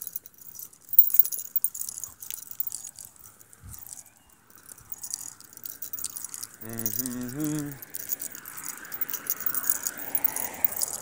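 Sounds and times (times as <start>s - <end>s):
metal chain necklaces jingling: 0.0s - 11.0s.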